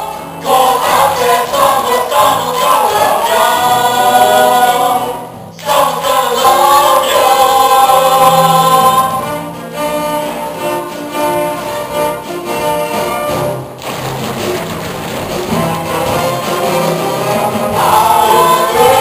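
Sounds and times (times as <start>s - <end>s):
musical accompaniment: 0.0s - 19.0s.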